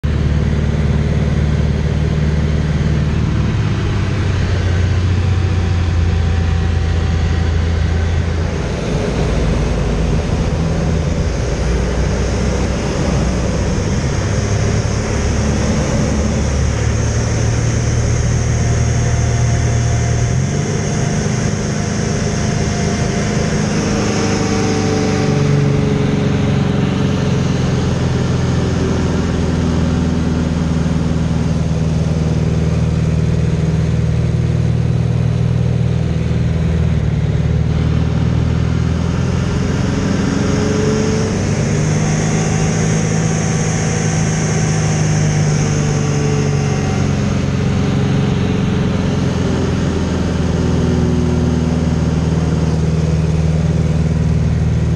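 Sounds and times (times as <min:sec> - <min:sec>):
biplane engine and propeller: 0:00.0 - 0:54.9.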